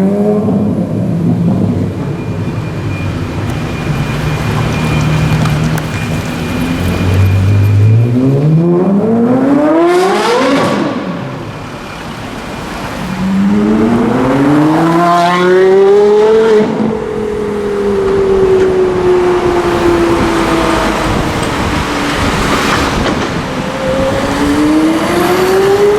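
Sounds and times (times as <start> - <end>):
sports car engine accelerating: 4.2 - 12.0, 12.6 - 25.9.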